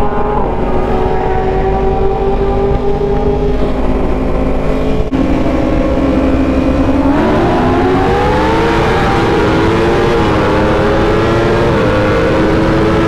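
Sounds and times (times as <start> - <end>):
motorcycle engine running at speed: 0.0 - 13.0
wind rush: 0.0 - 13.0.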